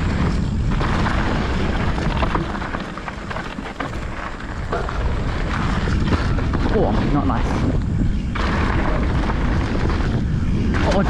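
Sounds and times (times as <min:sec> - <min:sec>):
bike tyres rolling over dirt: 0:00.0 - 0:11.0
wind rushing over microphone: 0:00.0 - 0:11.0.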